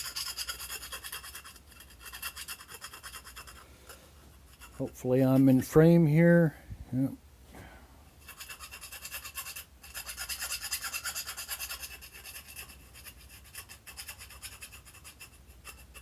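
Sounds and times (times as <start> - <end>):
file rasping on metal: 0.0 - 5.5, 8.2 - 16.0.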